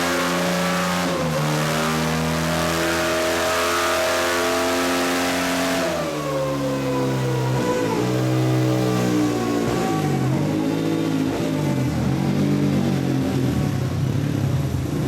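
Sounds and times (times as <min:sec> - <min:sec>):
dirt bike engine revving high: 0:00.0 - 0:14.4.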